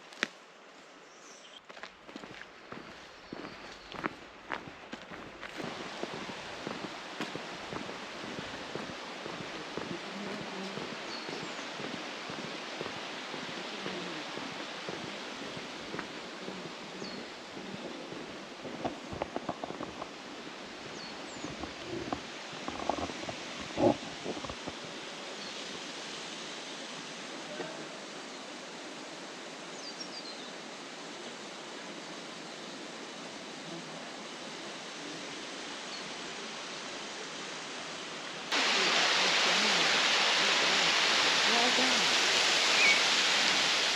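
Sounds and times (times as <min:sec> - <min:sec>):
steady rushing outdoor noise: 0:03.9 - 0:43.9.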